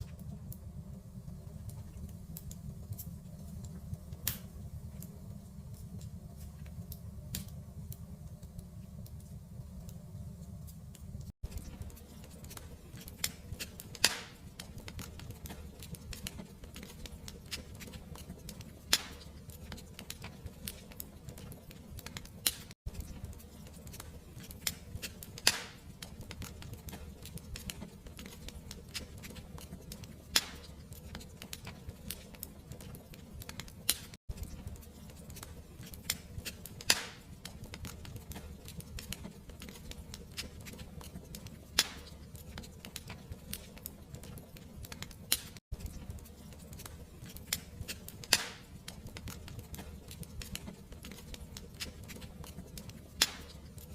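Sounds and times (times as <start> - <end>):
fireplace fire crackling: 0.0 - 53.9.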